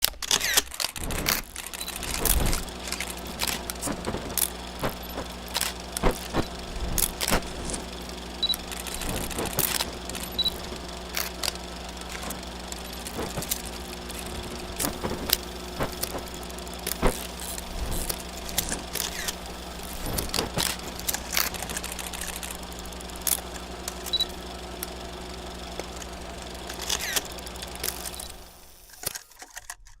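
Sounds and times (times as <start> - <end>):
film crackles and pops: 0.0 - 29.1
low hum: 0.8 - 28.8.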